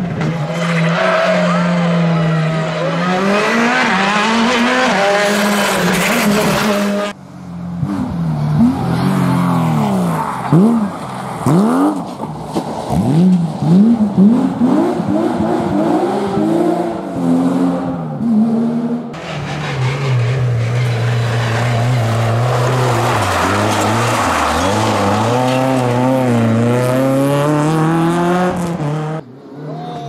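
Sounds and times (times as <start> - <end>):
rally car engine revving: 0.0 - 7.2, 7.8 - 30.0.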